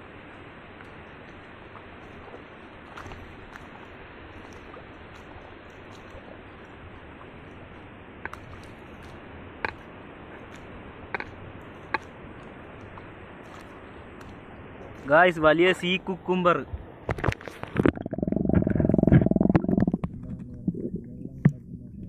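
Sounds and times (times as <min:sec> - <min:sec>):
footsteps wading through water: 0:00.0 - 0:21.5
water splashes: 0:00.0 - 0:22.0.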